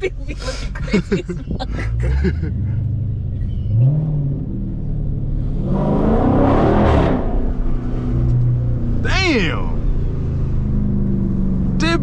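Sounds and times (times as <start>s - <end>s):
car engine revving and accelerating: 0.4s - 12.0s.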